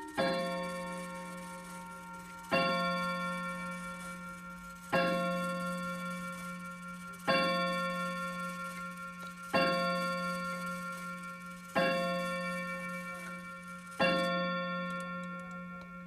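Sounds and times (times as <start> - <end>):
mantel clock chiming: 0.0 - 16.0.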